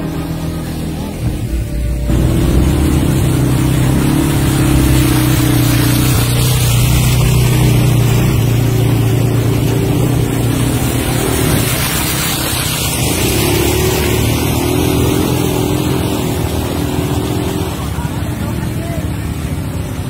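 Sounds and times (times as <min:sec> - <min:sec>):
quad bike engine revving: 0:00.0 - 0:19.8
water splashing from wheels: 0:00.0 - 0:20.0.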